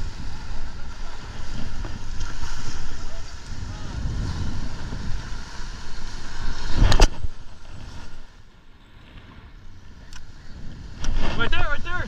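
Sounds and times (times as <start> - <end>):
surf washing against rocks: 0.0 - 8.4, 9.2 - 12.0
wind buffeting microphone: 0.0 - 8.4, 9.2 - 12.0.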